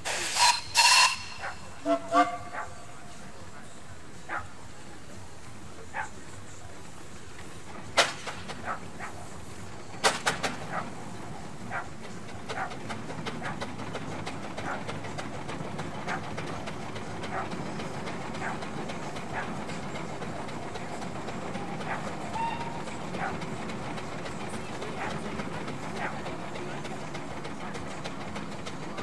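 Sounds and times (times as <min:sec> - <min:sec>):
steam engine exhaust beats: 0:00.0 - 0:29.0.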